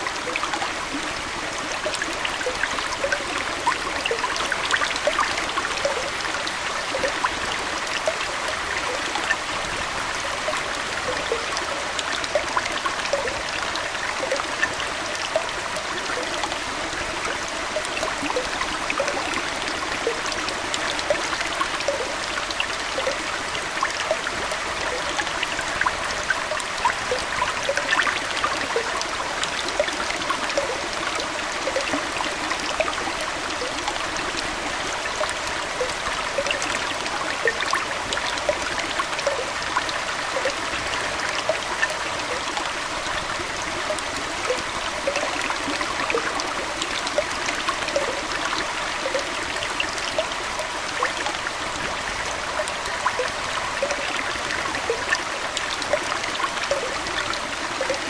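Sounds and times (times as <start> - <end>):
aquarium water trickling: 0.0 - 58.0
water drips and plinks: 0.0 - 58.0.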